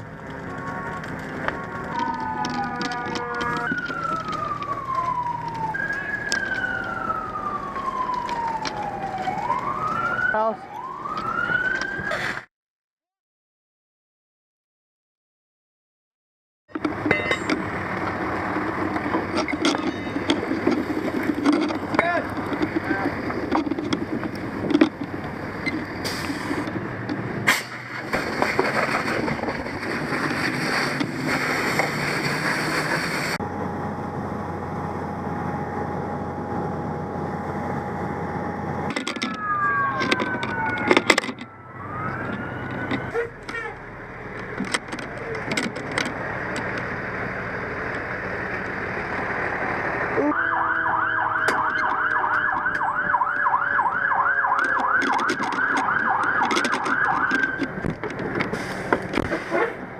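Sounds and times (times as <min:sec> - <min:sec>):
fire truck siren yelping: 0:00.2 - 0:12.5, 0:16.9 - 0:46.0, 0:48.1 - 0:58.8.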